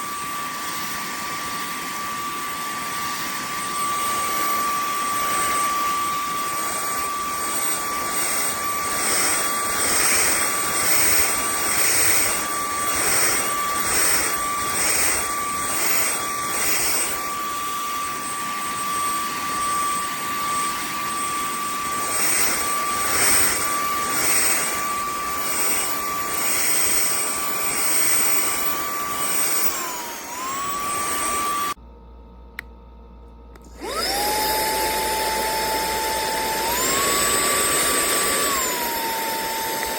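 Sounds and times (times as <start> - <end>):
handheld vacuum motor whine: 0.0 - 31.8, 33.4 - 39.9.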